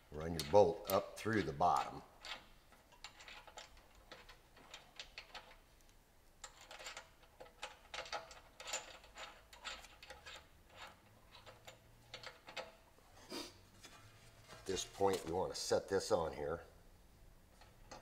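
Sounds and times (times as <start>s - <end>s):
metallic clicks and scrapes: 0.0s - 15.4s, 17.5s - 18.0s.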